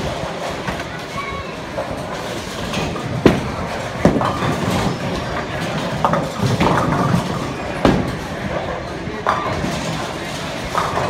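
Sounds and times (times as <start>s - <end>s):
bowling balls and pins clattering: 0.0s - 11.0s.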